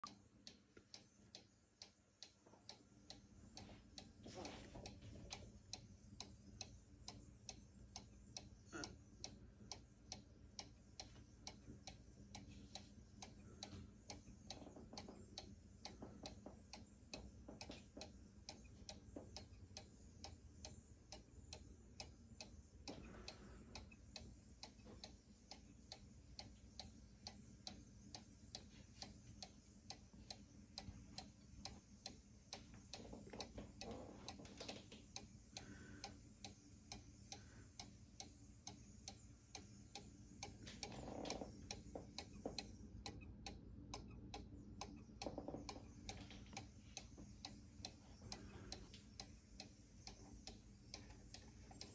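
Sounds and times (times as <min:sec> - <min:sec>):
clock ticking: 0:00.0 - 0:51.9.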